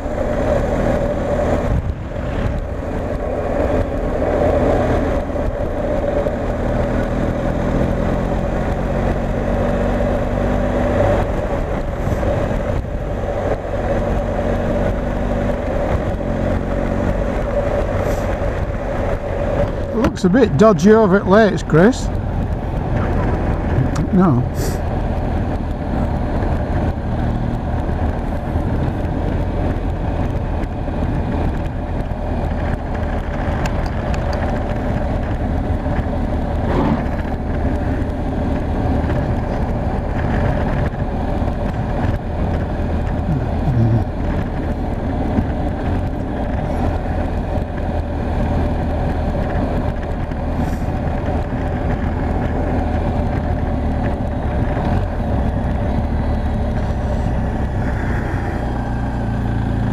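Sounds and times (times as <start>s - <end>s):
motorcycle engine running: 0.0s - 59.9s
road noise: 0.0s - 59.9s
wind noise: 0.0s - 59.9s.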